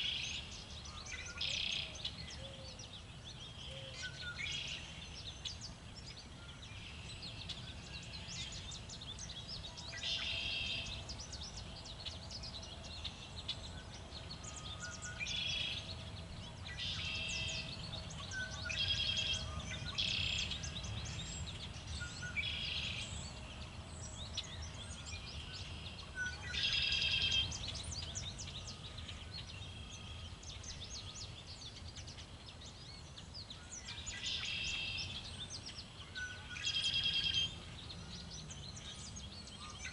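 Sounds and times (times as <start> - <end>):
songbirds chirping: 0.0 - 39.9
low wind rumble: 0.3 - 36.5.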